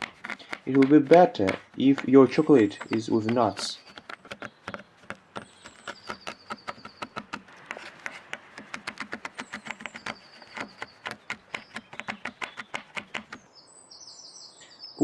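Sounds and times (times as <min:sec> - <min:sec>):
knife chopping on wooden board: 0:00.0 - 0:13.4
birds chirping faintly: 0:00.0 - 0:15.0.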